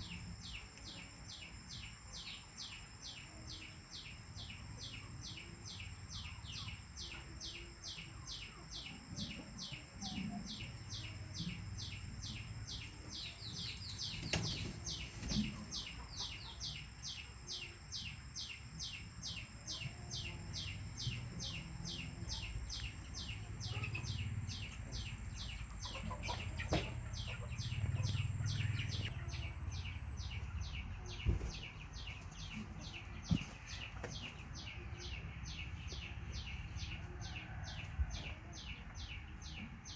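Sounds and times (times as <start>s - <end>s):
faint high whine: 0.0s - 36.8s
high chirping calls: 0.0s - 37.6s.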